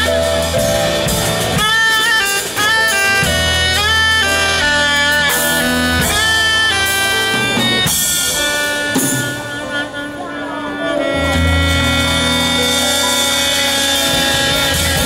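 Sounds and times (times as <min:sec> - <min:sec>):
bass: 0:00.0 - 0:15.0
live band playing: 0:00.0 - 0:15.0
saxophone melody: 0:00.0 - 0:15.0.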